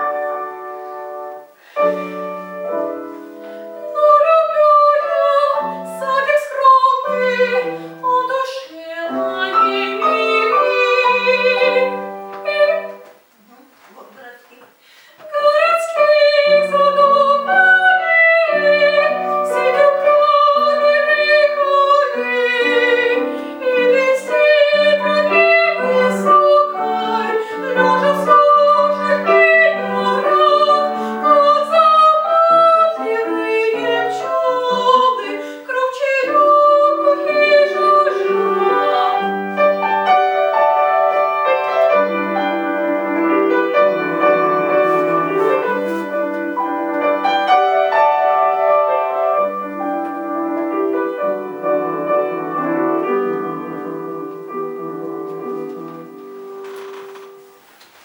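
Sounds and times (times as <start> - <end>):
piano accompaniment: 0.0 - 13.3, 15.2 - 58.0
woman singing classical: 0.0 - 57.5.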